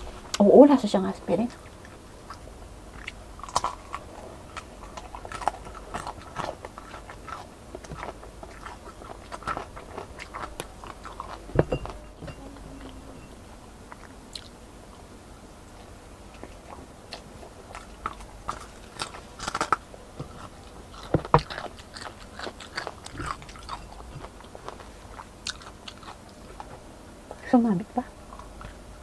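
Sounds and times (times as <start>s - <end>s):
crunchy chewing of fried chicken: 1.5s - 12.1s, 13.9s - 26.8s, 28.2s - 28.9s.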